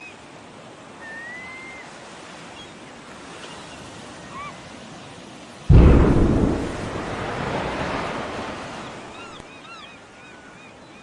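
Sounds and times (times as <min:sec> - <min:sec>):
sea: 0:00.0 - 0:11.0
wind: 0:00.0 - 0:11.0.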